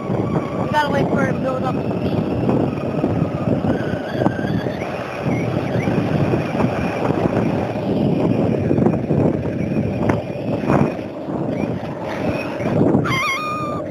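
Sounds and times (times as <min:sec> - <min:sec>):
electric motor whine: 0:00.0 - 0:13.9
skateboard wheels rumbling on asphalt: 0:00.0 - 0:13.9
wind on microphone: 0:00.0 - 0:13.9.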